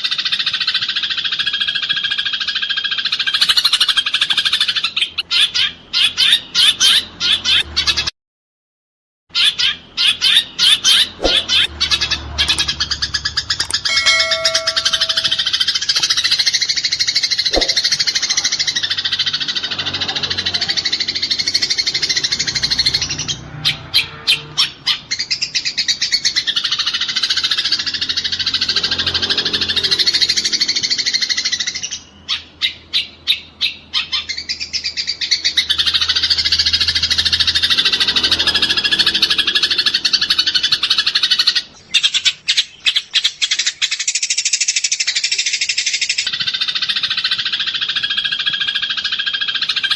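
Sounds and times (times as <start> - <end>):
sparrows chattering: 0.0 - 8.1, 9.4 - 49.9.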